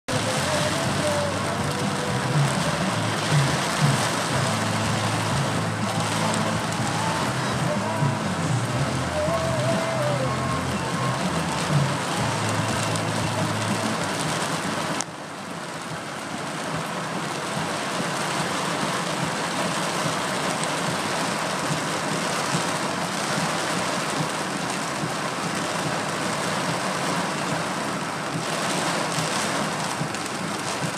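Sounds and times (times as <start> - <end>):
heavy rain pouring on a car: 0.1 - 30.9.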